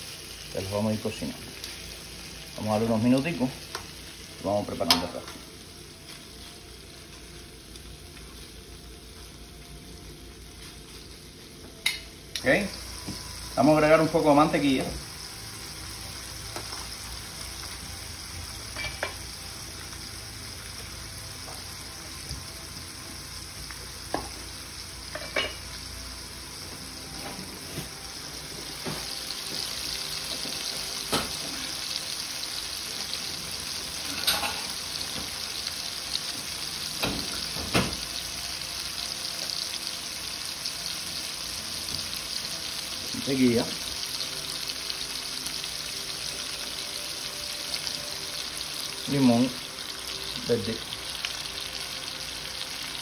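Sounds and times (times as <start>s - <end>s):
shrimp sizzling in a pan: 0.0s - 53.0s.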